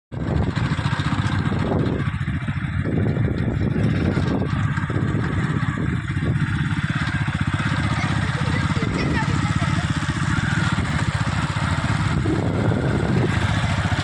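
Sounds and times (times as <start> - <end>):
engine running steadily: 0.1 - 14.0.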